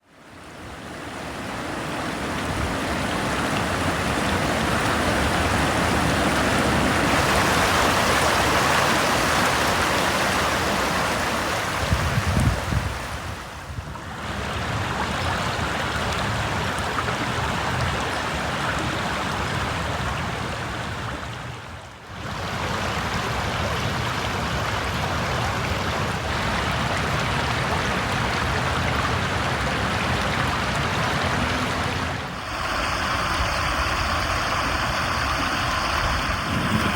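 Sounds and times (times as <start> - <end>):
flowing water rushing: 0.0 - 36.9.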